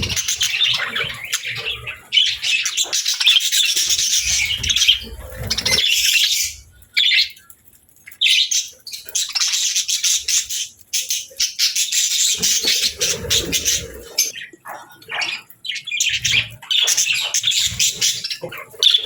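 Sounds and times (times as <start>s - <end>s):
parrots chirping and chattering: 0.0s - 19.0s.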